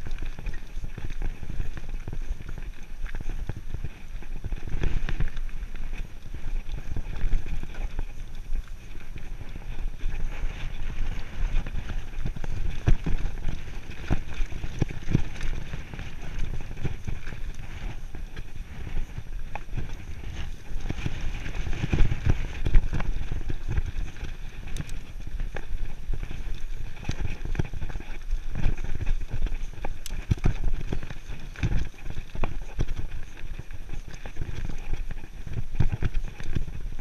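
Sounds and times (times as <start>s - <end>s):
bike tyres rumbling on dirt: 0.0s - 37.0s
wheels knocking on stones: 0.0s - 37.0s
wind on microphone: 0.0s - 37.0s.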